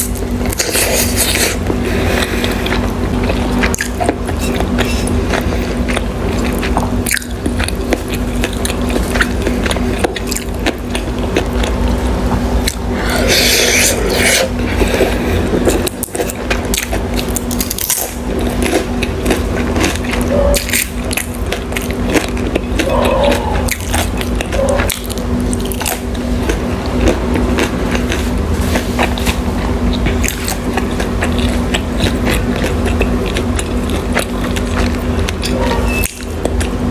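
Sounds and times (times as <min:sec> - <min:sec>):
chewing and mouth clicks: 0:00.0 - 0:36.9
steady low hum: 0:00.0 - 0:36.9.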